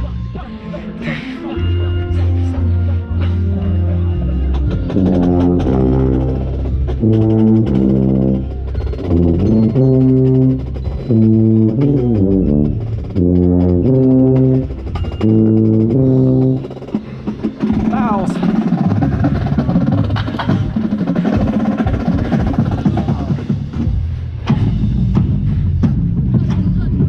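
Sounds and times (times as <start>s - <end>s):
brass chords: 0.0s - 23.9s.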